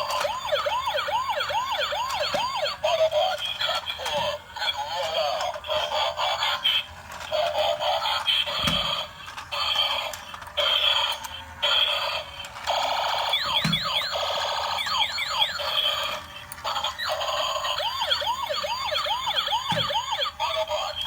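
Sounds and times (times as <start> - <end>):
toy electronic effects: 0.0 - 21.0
toy police siren wailing: 0.0 - 21.0.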